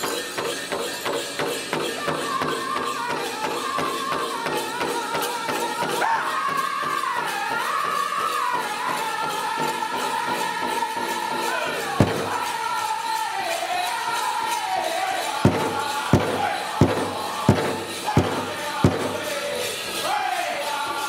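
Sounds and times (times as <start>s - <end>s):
loud drum beats: 0.0s - 21.0s
group singing high voices: 1.7s - 21.0s.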